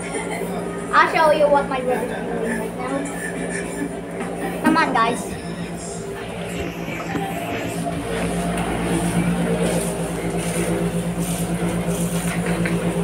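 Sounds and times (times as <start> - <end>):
pulsing motor hum: 0.0 - 13.0.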